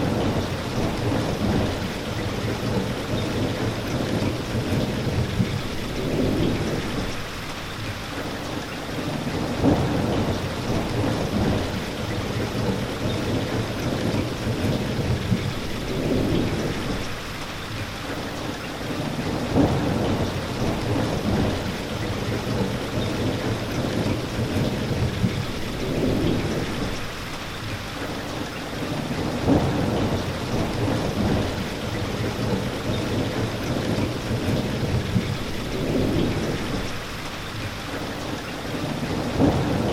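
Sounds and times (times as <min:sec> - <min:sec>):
thunder rumbling: 0:00.0 - 0:07.4, 0:09.4 - 0:17.3, 0:19.2 - 0:27.2, 0:29.1 - 0:37.2, 0:39.0 - 0:39.9
steady rain: 0:00.0 - 0:39.9.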